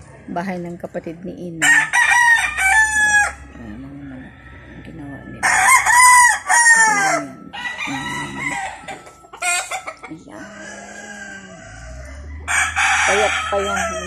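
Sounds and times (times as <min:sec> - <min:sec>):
low clucking: 0:00.0 - 0:14.0
roosters crowing: 0:01.6 - 0:14.0.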